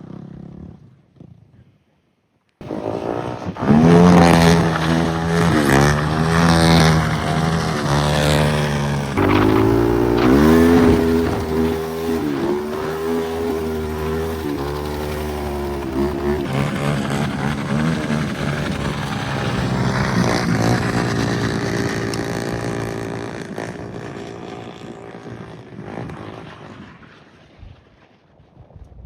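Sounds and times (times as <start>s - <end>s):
quad engine revving: 2.6s - 26.8s.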